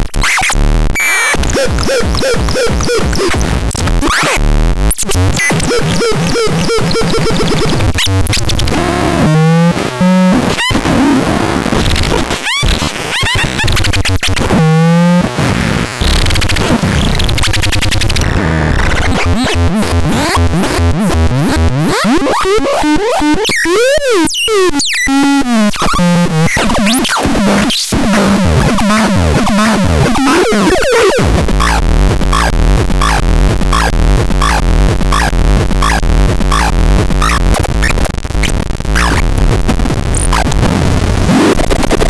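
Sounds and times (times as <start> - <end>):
chaotic electronic synthesizer noise: 0.0 - 42.0.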